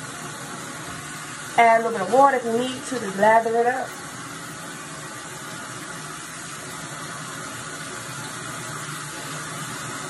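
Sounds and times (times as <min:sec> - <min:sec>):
faucet running into sink: 0:00.0 - 0:10.0.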